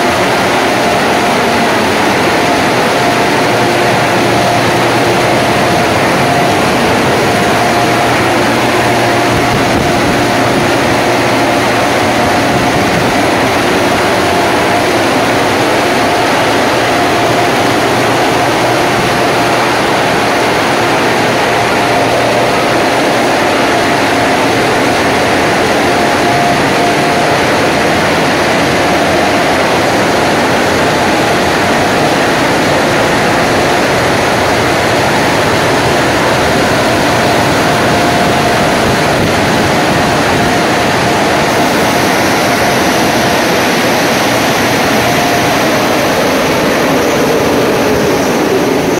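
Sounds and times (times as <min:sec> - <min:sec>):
car wash machinery rushing: 0:00.0 - 0:48.9
steady whine: 0:00.0 - 0:48.9.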